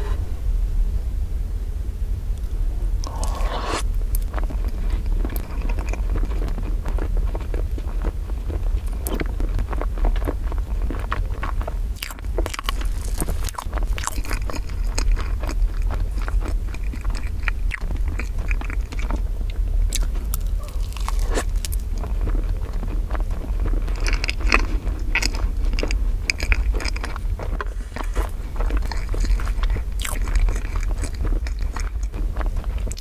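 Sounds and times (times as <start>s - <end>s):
steady low hum: 0.0s - 33.0s
wet chewing sounds: 4.1s - 33.0s.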